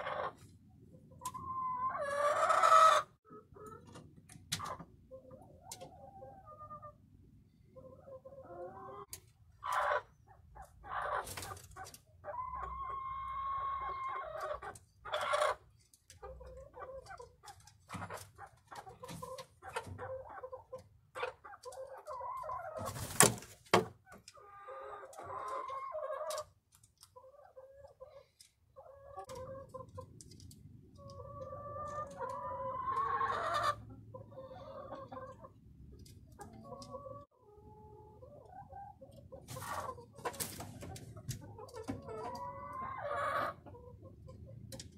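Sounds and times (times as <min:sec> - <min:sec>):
hens clucking: 0:00.0 - 0:44.9.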